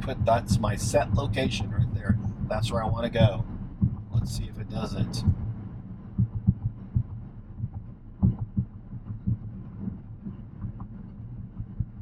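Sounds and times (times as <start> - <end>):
low hum inside car cabin: 0.0 - 12.0.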